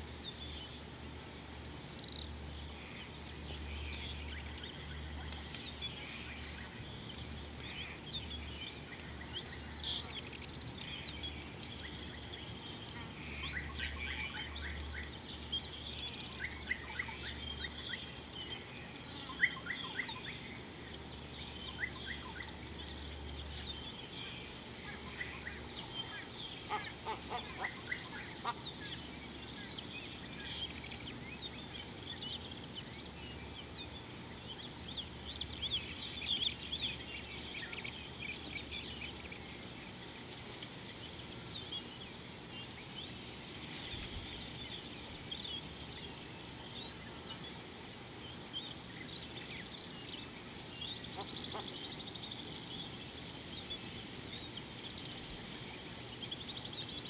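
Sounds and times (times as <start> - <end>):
low steady hum: 0.0 - 57.0
wild birds chirping: 0.0 - 57.0.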